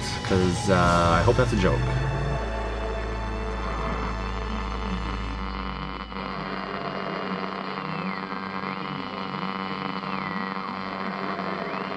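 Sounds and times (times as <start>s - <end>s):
deep low hum: 0.0s - 11.2s
electronic buzzing hum with static: 1.6s - 11.9s.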